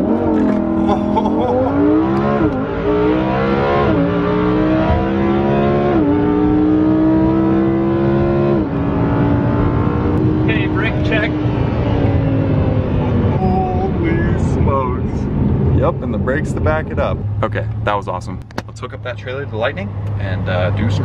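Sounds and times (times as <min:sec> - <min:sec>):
car engine accelerating: 0:00.0 - 0:18.5.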